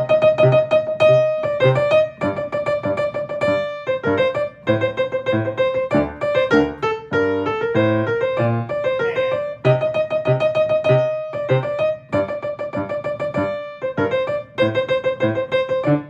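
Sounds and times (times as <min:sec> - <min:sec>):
piano playing melody over chords: 0:00.0 - 0:16.0.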